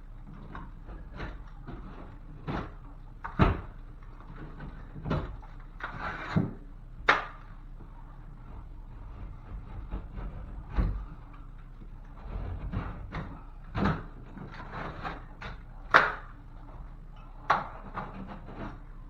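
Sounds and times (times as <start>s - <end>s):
knife scraping drywall: 0.2s - 19.0s.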